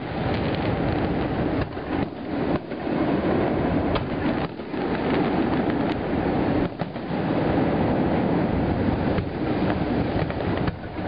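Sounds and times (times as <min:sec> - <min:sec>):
fireworks barrage: 0:00.0 - 0:11.0.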